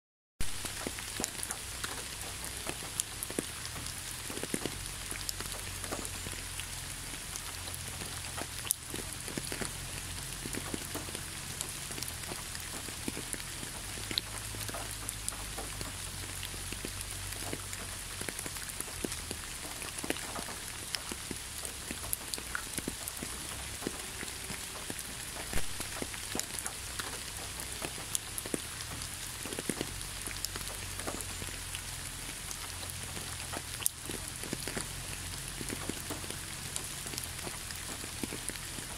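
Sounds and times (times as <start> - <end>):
raindrops ticking: 0.4 - 38.9
steady rain: 0.4 - 38.9.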